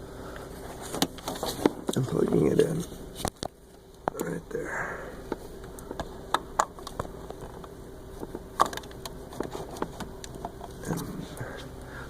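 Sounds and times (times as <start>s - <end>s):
small pump humming: 0.0s - 12.0s.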